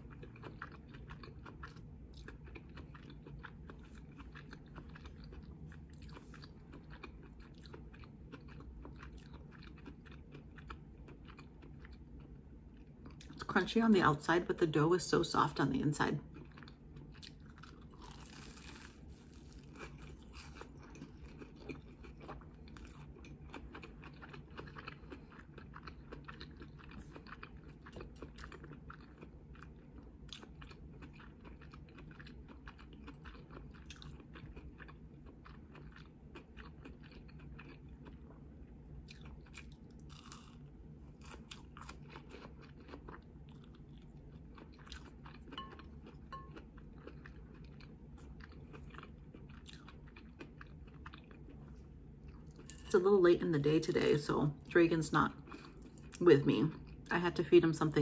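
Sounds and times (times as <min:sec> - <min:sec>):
crunchy chewing: 0:00.0 - 0:13.4, 0:16.3 - 0:53.0.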